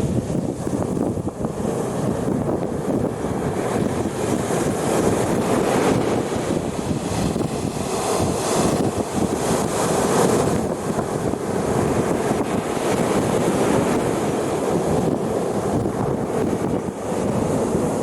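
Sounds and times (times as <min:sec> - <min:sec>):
sea waves breaking on shore: 0:00.0 - 0:18.0
wind buffeting microphone: 0:00.0 - 0:18.0.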